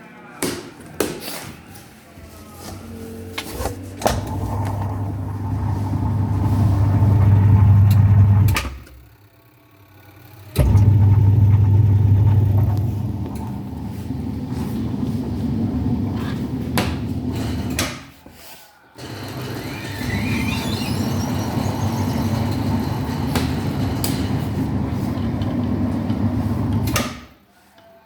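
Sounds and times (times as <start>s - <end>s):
washing machine spinning: 3.9s - 18.1s, 19.0s - 27.3s.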